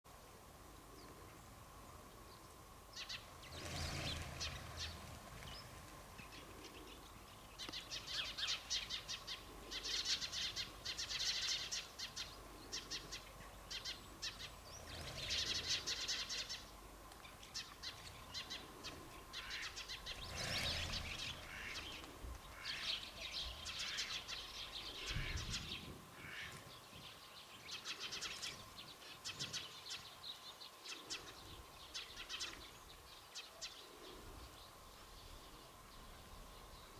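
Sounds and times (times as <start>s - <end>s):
sparrows chirping: 2.3s - 36.9s.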